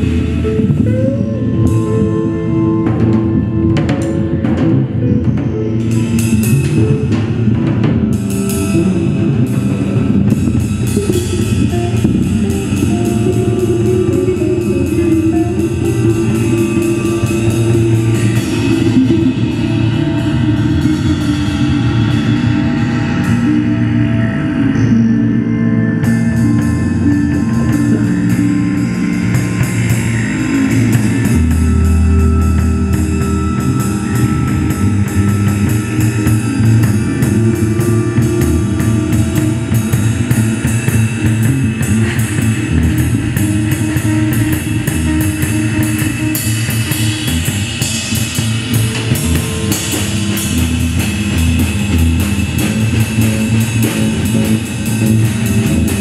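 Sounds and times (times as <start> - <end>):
drum kit and cymbals: 0.0 - 24.0, 26.0 - 56.0
electric bass notes: 0.0 - 56.0
electric guitar: 0.0 - 56.0.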